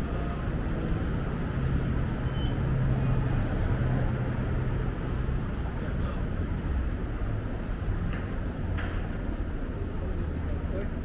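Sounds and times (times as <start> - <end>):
low rumble of road noise: 0.0 - 11.0.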